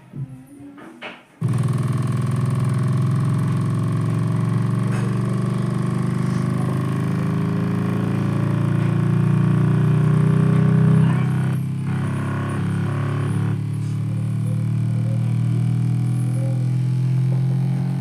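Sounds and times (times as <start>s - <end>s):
deep buzzing test tone: 1.4s - 18.0s.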